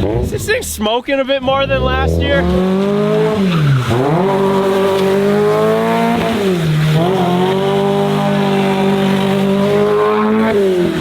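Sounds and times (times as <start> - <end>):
car engine revving: 0.0 - 0.7, 1.4 - 11.0.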